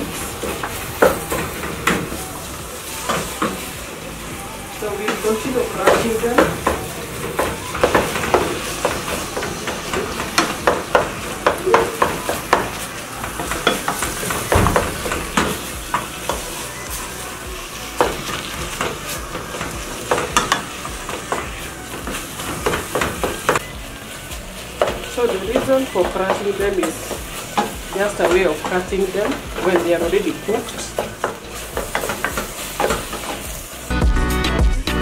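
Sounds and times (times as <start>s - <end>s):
food sizzling in pot: 0.0s - 35.0s.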